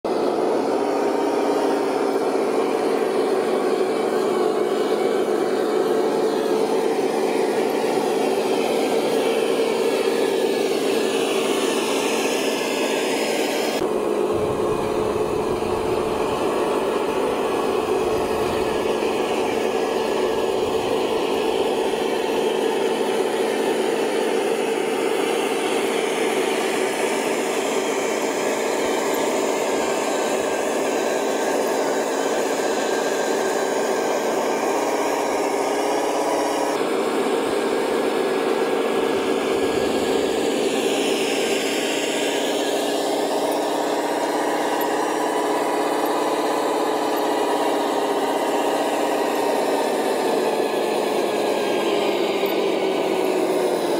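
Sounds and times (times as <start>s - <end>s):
small electric motors whirring: 0.5s - 53.9s.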